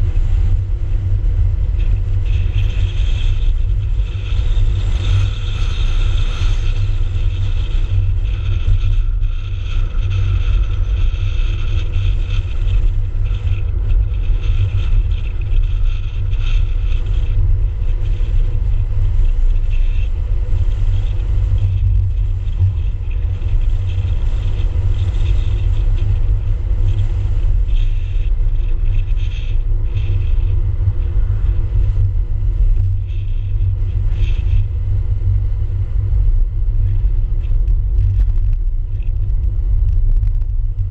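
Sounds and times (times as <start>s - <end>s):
car road noise: 0.0s - 40.9s
wind buffeting microphone: 0.0s - 40.9s.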